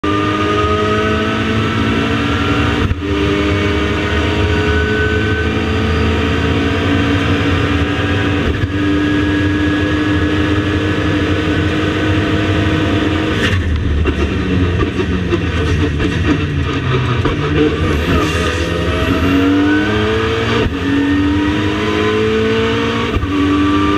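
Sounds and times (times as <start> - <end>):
race car engine accelerating: 0.0 - 23.9.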